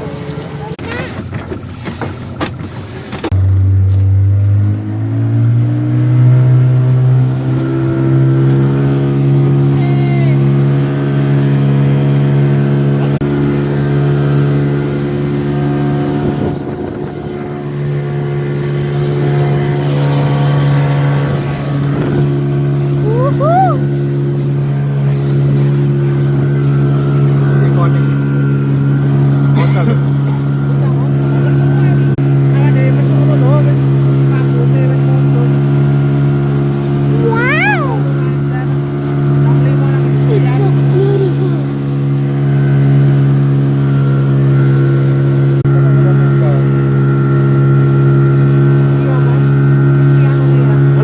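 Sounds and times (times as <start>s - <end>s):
speedboat engine: 0.0s - 51.0s.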